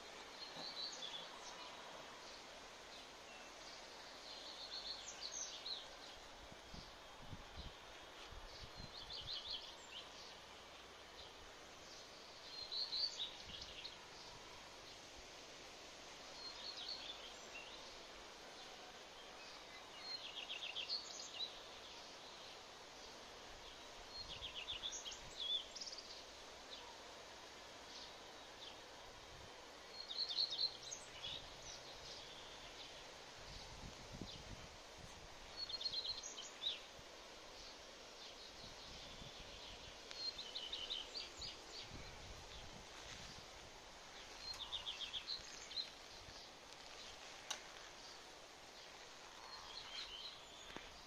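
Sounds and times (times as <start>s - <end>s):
faint outdoor background noise: 0.0s - 51.0s.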